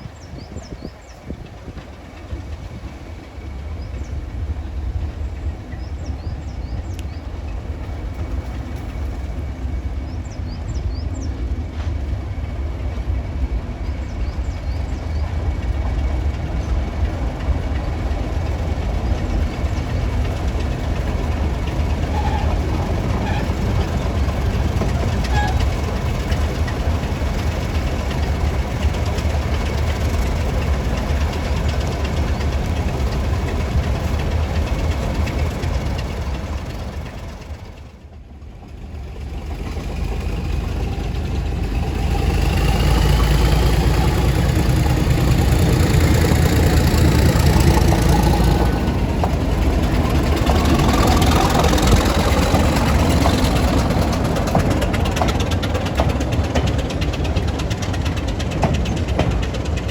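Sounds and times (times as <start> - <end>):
diesel locomotive engine running: 0.0 - 59.9
engine whine: 1.7 - 59.9.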